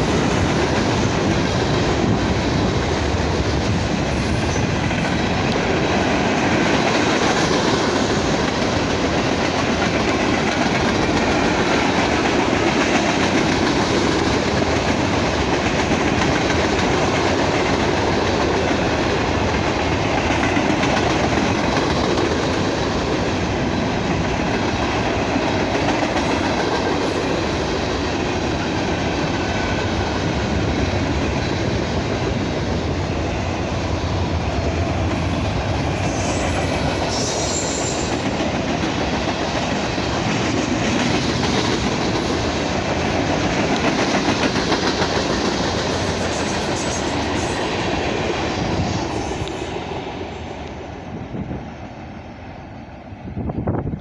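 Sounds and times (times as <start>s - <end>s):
train wheels clicking over rail joints: 0.0s - 50.9s.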